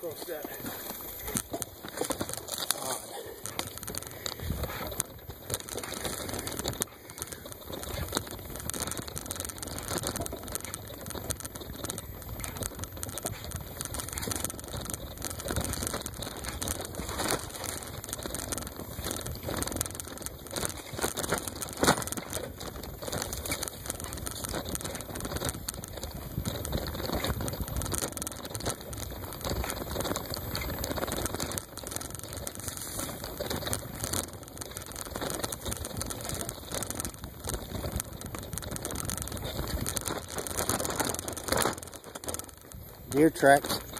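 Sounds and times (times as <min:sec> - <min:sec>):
bicycle tyres rolling through grass: 0:00.0 - 0:43.9
bike rattling and knocking: 0:00.0 - 0:43.9.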